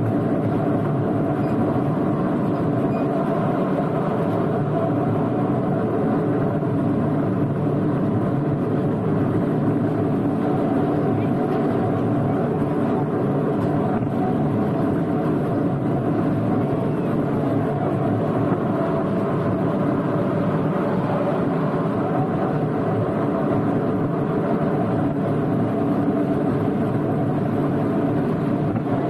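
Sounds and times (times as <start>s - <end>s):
tourist train running on track: 0.0s - 29.0s.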